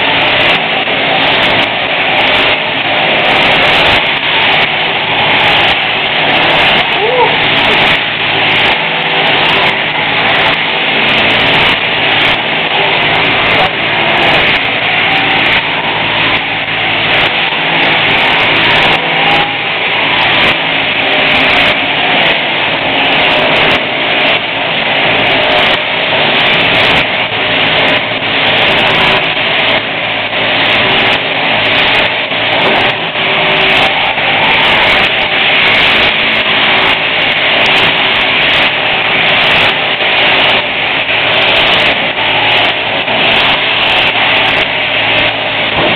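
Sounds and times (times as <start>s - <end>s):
sheep shears buzzing: 0.0s - 45.9s.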